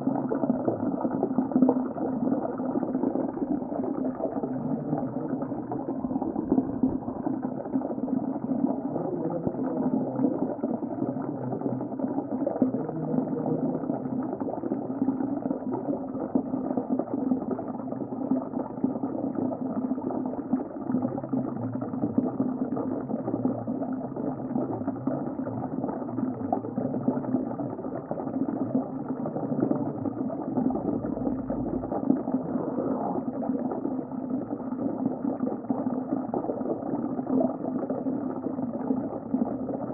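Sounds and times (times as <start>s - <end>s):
muffled underwater rumble: 0.0s - 39.9s.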